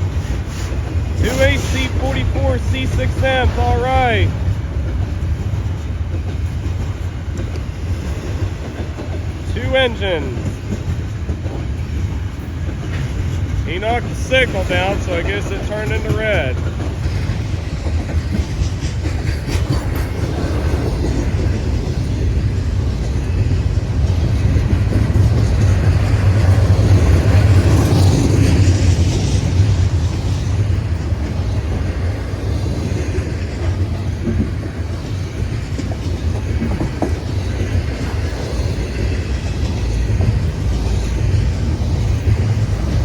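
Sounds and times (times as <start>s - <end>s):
freight train rolling past: 0.0s - 43.0s.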